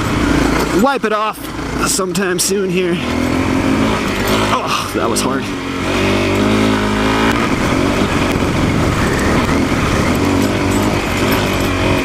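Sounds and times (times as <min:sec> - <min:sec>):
motorcycle engine running under load: 0:00.0 - 0:12.0.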